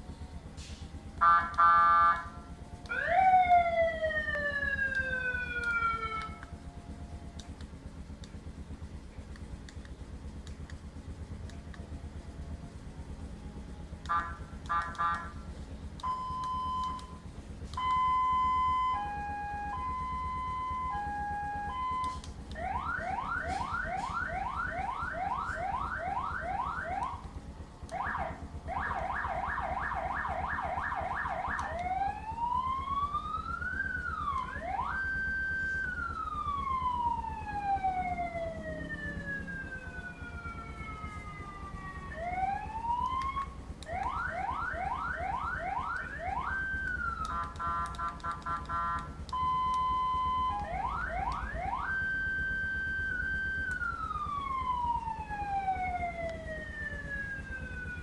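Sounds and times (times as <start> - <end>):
motorcycle siren cycling tones: 0.0 - 58.0.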